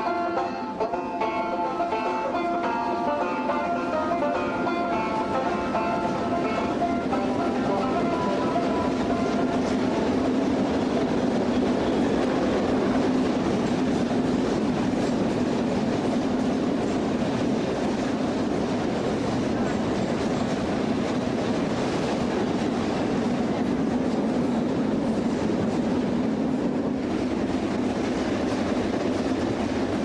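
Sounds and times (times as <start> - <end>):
freight train rumbling and rattling: 0.0 - 30.0.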